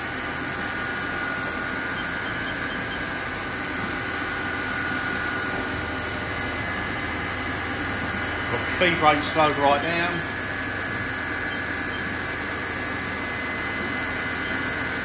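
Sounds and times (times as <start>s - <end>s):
machine hum: 0.0s - 15.0s
spindle high whine: 0.0s - 15.0s.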